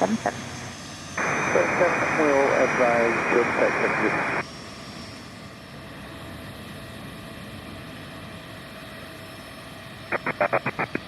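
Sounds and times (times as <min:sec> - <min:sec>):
jet engine noise with whine: 0:00.0 - 0:11.0.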